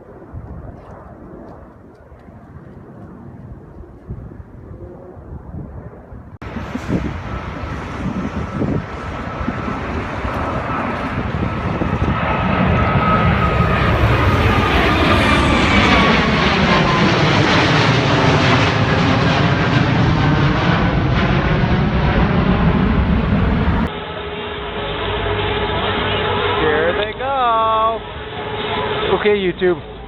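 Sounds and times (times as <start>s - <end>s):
airplane passing overhead: 0.0s - 30.0s
engine whine: 0.0s - 30.0s.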